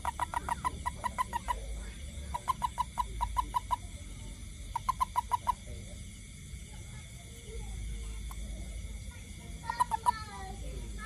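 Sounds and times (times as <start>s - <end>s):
toad chirping: 0.0s - 6.0s, 8.1s - 11.0s.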